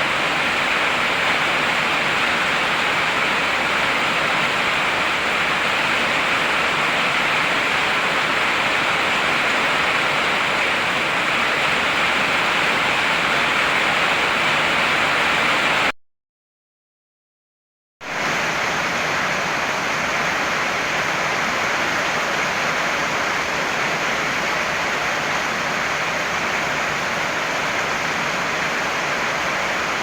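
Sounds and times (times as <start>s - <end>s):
heavy rain falling: 0.0s - 15.9s, 18.1s - 30.0s.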